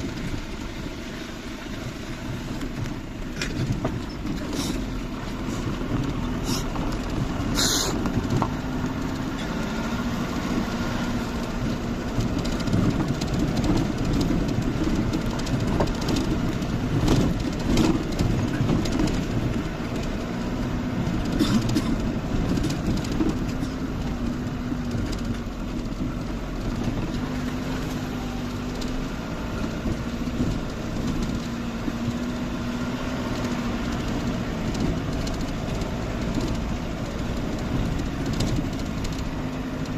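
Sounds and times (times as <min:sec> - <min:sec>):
road noise: 0:00.0 - 0:39.9
vehicle engine hum: 0:00.0 - 0:39.9
rattling and knocks: 0:02.3 - 0:39.9.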